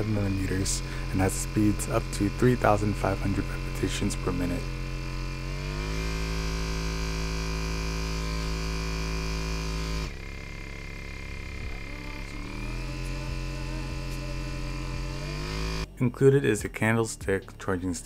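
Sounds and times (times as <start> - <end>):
massage gun motor humming: 0.0 - 16.0.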